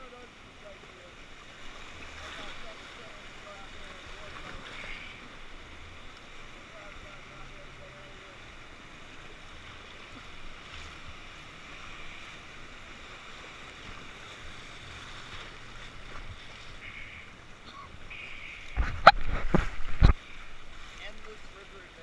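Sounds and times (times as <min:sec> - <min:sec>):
whitewater rapids rushing: 0:00.0 - 0:22.0.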